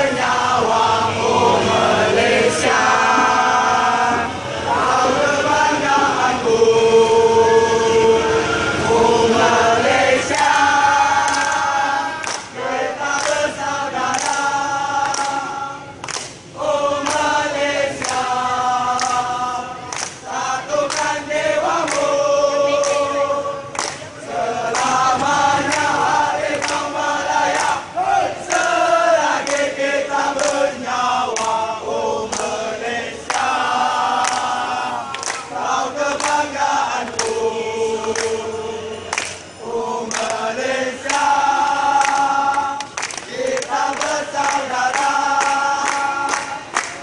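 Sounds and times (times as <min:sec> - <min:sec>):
crowd chanting in unison: 0:00.0 - 0:47.0.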